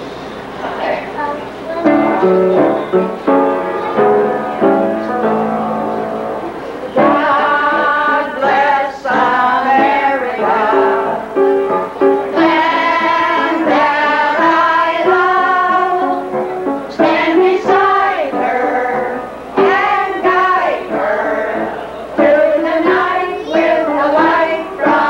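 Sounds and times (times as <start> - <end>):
held accompanying notes: 1.2 - 25.0.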